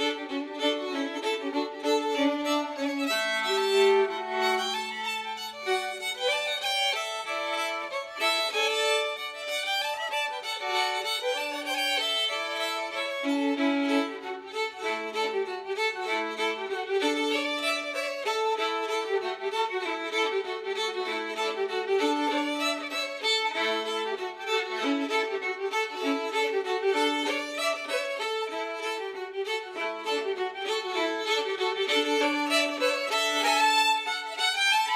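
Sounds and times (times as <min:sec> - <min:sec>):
fiddle playing a folk tune: 0:00.0 - 0:34.9.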